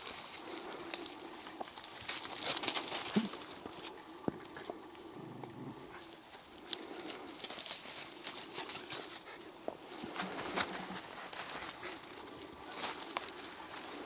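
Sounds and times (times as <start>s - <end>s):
paws rustling in dry leaves: 0.0s - 14.0s
puppies growling: 0.0s - 14.0s.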